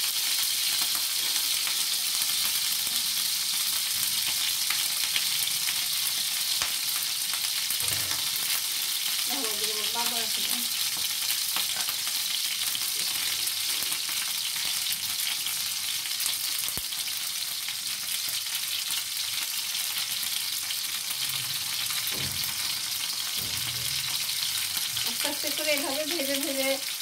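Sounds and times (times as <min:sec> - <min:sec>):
hot oil sizzling in a frying pan: 0:00.0 - 0:27.0.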